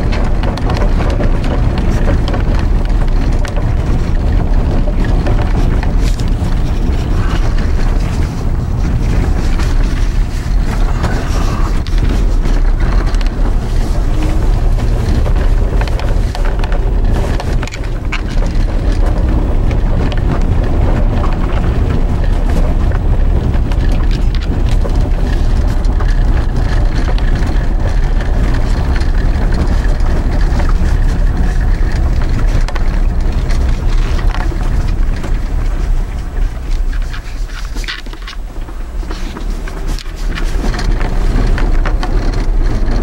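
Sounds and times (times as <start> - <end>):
small crackles: 0.0 - 43.0
tyre noise on snowy road: 0.0 - 43.0.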